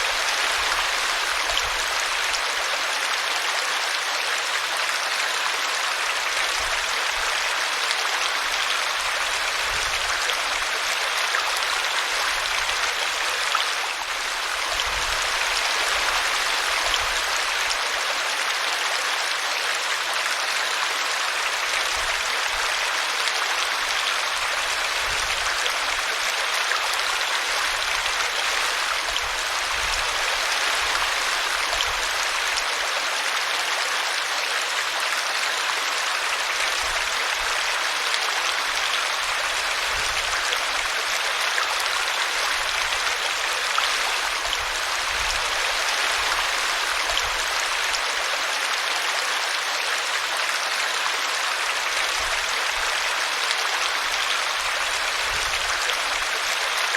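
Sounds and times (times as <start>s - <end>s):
brook babbling: 0.0s - 56.9s.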